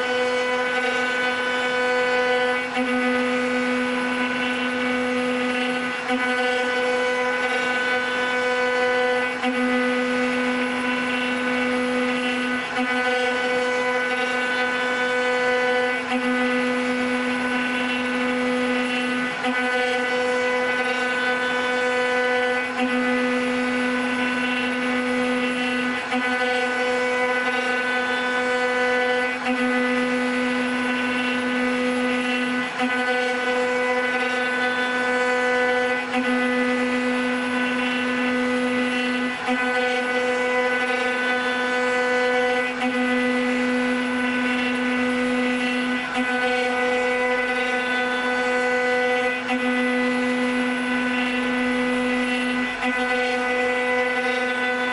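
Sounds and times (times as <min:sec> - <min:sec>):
wood router spindles whining: 0:00.0 - 0:54.9.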